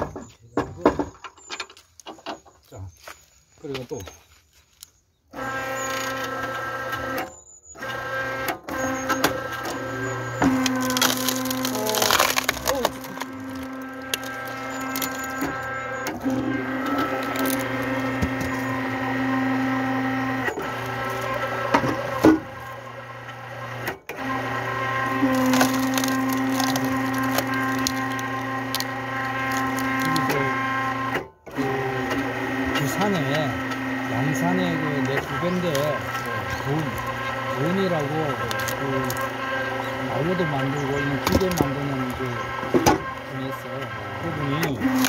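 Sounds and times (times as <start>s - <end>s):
wood cracking and splitting: 1.4s - 45.0s
log splitter motor humming: 5.3s - 45.0s.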